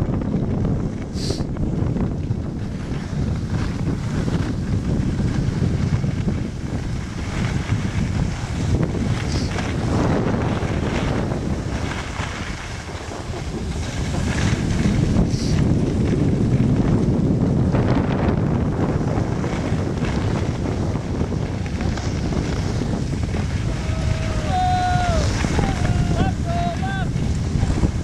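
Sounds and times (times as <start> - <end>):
skis scraping over snow: 0.0 - 28.0
wind buffeting microphone: 0.0 - 28.0.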